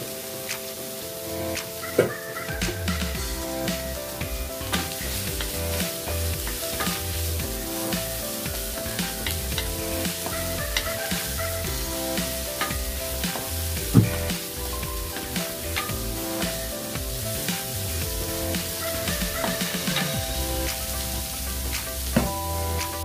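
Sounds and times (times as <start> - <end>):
vegetables sizzling in a wok: 3.1 - 23.0.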